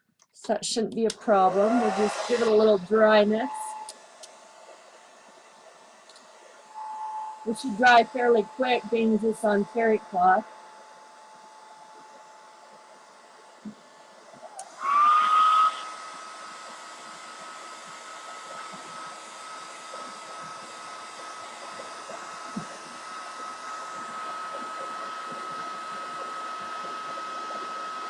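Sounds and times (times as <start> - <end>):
heat tool fan whine and hiss: 0.0 - 28.0.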